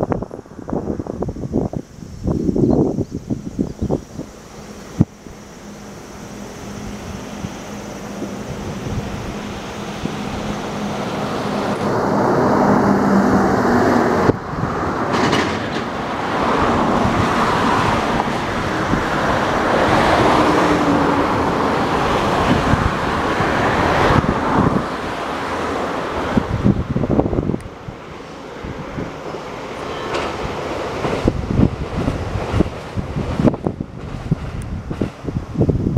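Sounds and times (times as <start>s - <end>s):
wind buffeting microphone: 0.0s - 5.6s, 6.3s - 35.9s
train rumbling: 0.0s - 35.9s.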